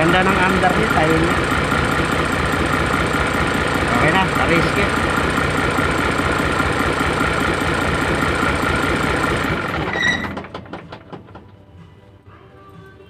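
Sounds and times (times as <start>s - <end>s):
diesel truck engine idling: 0.0s - 11.8s.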